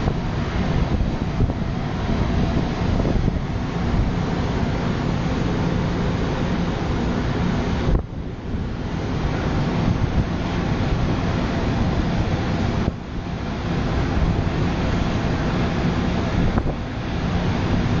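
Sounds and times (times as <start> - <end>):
low rumble: 0.0 - 18.0
sea noise: 0.0 - 18.0
wind buffeting microphone: 0.0 - 18.0.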